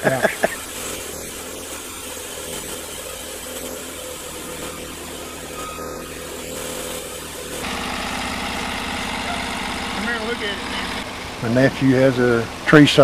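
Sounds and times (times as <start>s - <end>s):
bandsaw mill engine humming: 0.0s - 13.0s.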